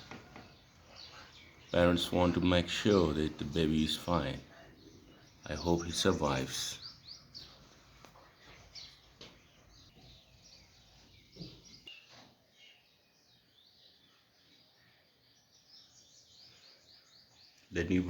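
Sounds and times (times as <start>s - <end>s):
sparrows chirping: 0.0s - 18.0s.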